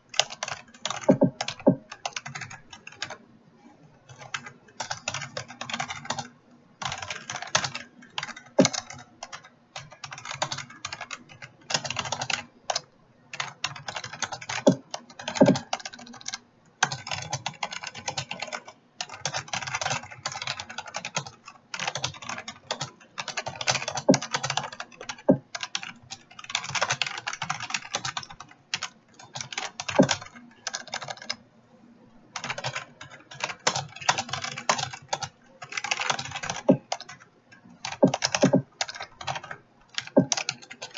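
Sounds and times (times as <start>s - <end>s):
fast typing on a keyboard: 0.0s - 3.2s, 4.0s - 31.4s, 32.4s - 40.9s.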